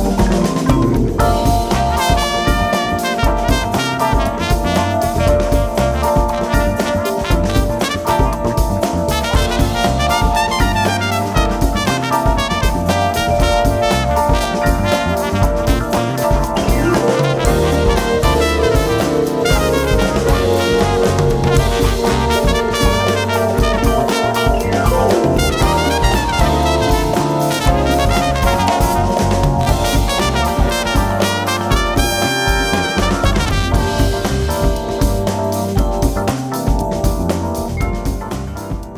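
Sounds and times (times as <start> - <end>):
steady drum beat: 0.0 - 38.9
upbeat jazzy tune with brass: 0.0 - 38.9.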